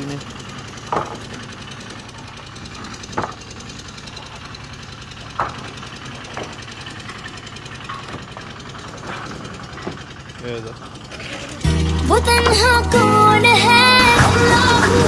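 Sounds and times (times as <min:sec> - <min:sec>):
concrete mixer engine knocking: 0:00.0 - 0:15.0.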